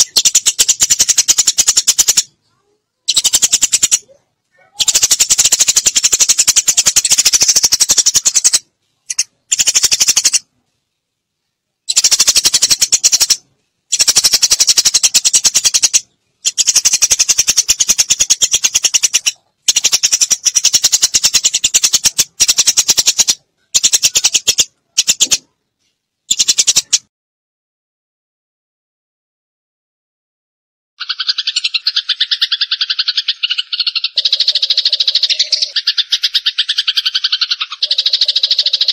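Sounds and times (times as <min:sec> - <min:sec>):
sparrow chattering chirps: 0:00.0 - 0:10.5, 0:11.9 - 0:25.5, 0:26.3 - 0:27.0, 0:31.0 - 0:38.9.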